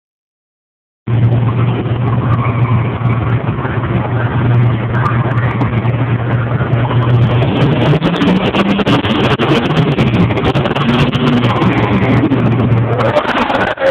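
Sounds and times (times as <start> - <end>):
truck engine running loudly: 1.1 - 13.9.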